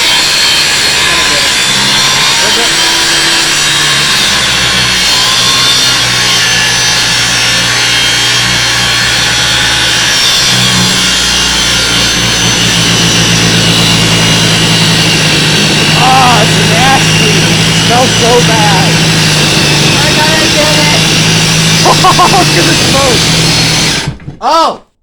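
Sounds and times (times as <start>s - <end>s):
angle grinder cutting metal: 0.0s - 24.2s.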